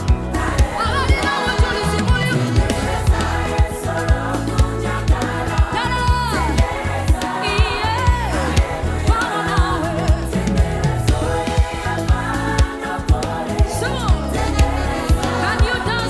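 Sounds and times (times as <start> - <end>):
bass: 0.0 - 16.0
keyboards: 0.0 - 16.0
steady drum beat: 0.0 - 16.0.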